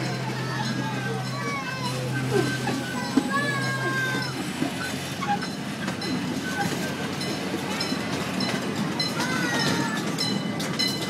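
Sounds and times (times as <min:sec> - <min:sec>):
small train rumbling on track: 0:00.0 - 0:11.0
wheels clicking on rails: 0:00.0 - 0:11.0.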